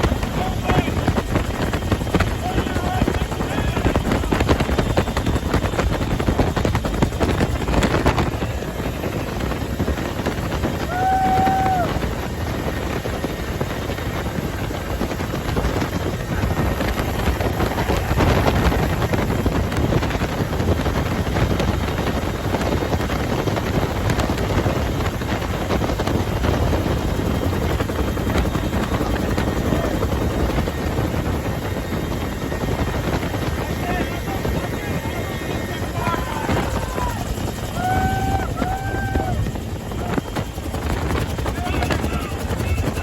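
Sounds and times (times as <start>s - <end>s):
helicopter engine and rotor: 0.0s - 43.0s.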